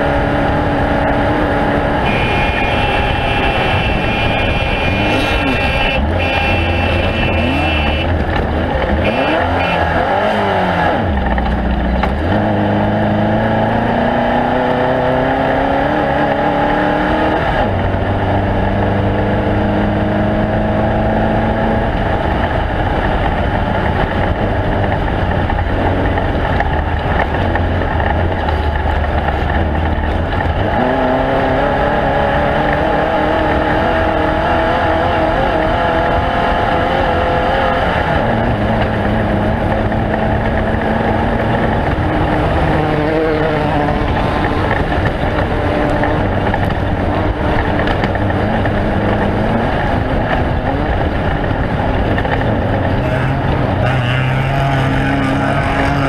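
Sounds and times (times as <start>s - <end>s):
race vehicle engine revving: 0.0s - 56.0s
steady rush of noise: 0.0s - 56.0s.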